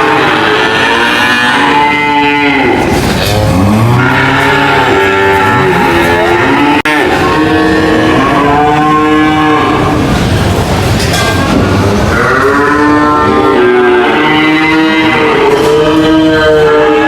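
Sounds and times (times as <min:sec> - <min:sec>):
cattle mooing: 0:00.0 - 0:10.3, 0:11.6 - 0:17.0.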